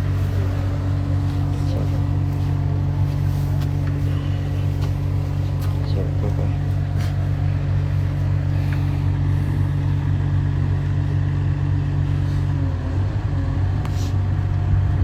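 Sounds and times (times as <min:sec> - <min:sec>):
low car engine rumble: 0:00.0 - 0:15.0.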